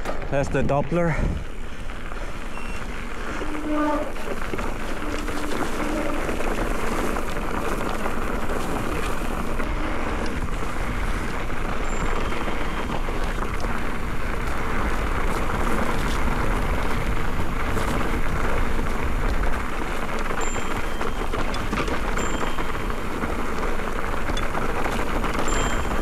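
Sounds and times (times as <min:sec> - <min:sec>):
bike tyres on dirt trail: 0:00.0 - 0:26.0.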